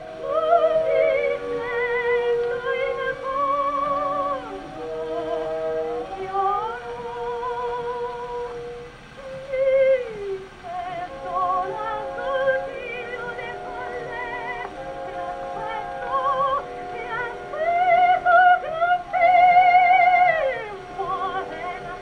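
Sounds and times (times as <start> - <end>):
orchestra accompaniment: 0.0 - 9.1, 10.8 - 22.0
soprano singing operatic aria: 0.0 - 22.0.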